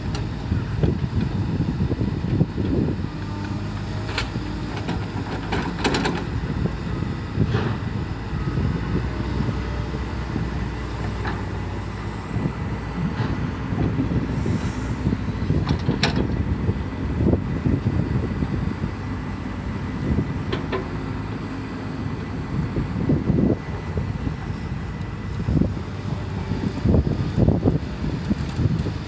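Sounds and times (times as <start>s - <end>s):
excavator diesel engine: 0.0s - 29.0s.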